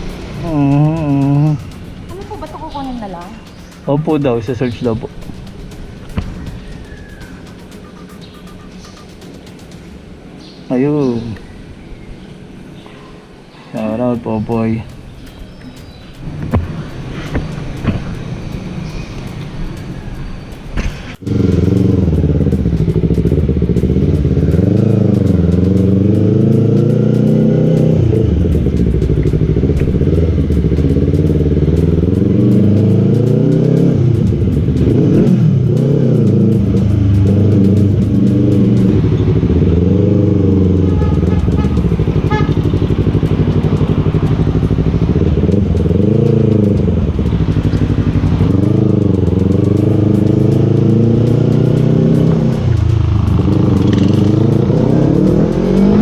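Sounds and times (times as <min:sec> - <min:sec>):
motorcycle engine revving: 0:00.0 - 0:10.0, 0:20.8 - 0:56.0.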